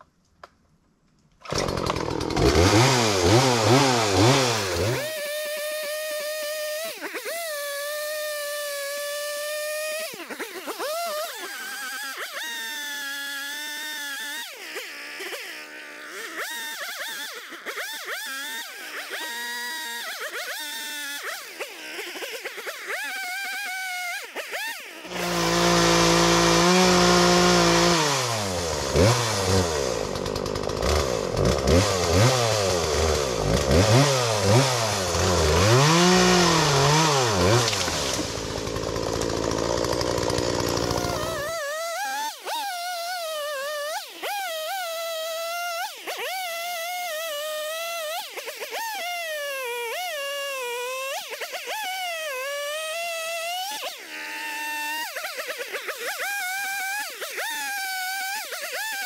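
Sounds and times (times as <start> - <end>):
chainsaw revving: 1.4 - 59.0.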